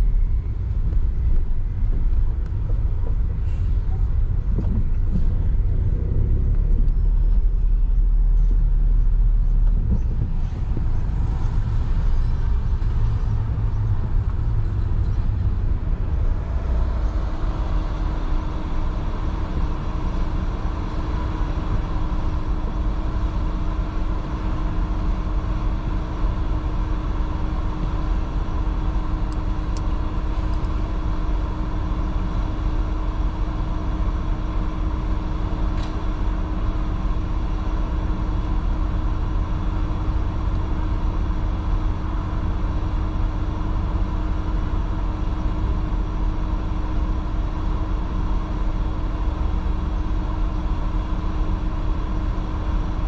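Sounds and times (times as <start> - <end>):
constant low hum: 0.0 - 53.0
traffic rumble: 0.0 - 53.0.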